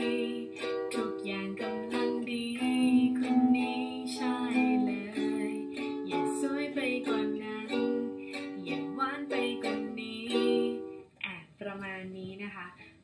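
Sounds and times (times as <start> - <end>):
ukulele strumming chords: 0.0 - 11.1.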